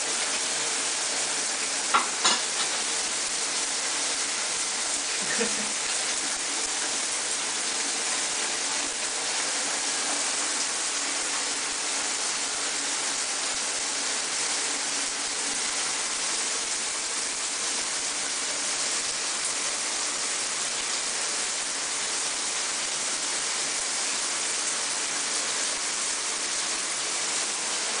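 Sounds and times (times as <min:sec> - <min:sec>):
shower water spraying: 0:00.0 - 0:28.0.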